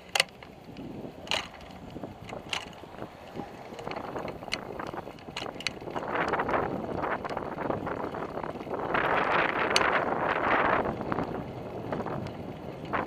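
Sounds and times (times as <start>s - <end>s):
bicycle clicks and knocks: 0.0s - 13.0s
rolling and wind noise: 0.0s - 13.0s.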